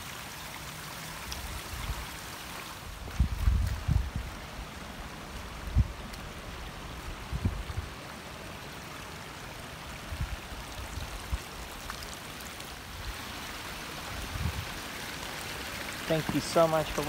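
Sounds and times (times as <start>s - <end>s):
creek running over stones: 0.0s - 17.0s.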